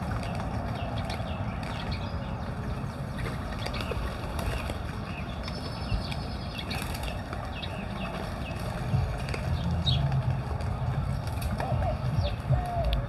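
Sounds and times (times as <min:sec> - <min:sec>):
doves wings flapping: 0:00.0 - 0:13.0
steady low rumble: 0:00.0 - 0:13.0.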